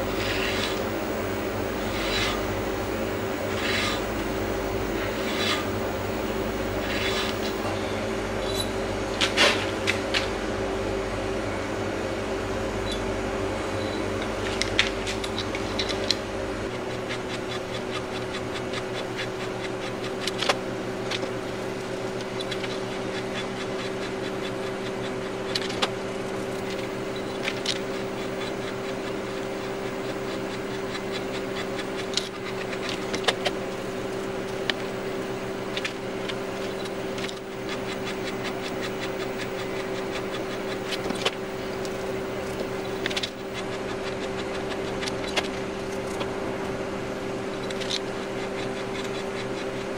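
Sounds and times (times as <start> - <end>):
valve seat cutter scraping: 0.0 - 7.8, 15.2 - 49.9
steady background hum: 0.0 - 49.9.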